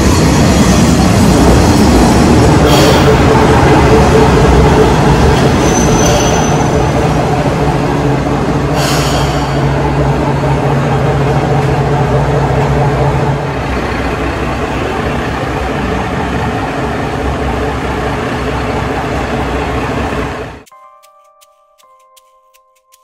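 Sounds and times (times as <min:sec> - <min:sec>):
diesel railcar engine idling: 0:00.0 - 0:20.6.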